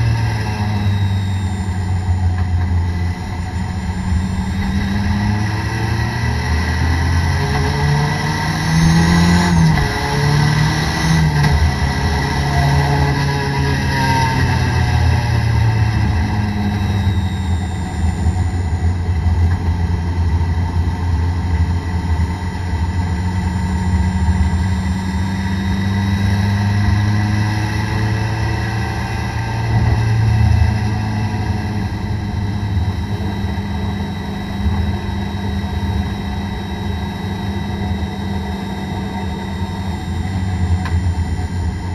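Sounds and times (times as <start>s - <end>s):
car engine at moderate revs: 0.0s - 41.9s.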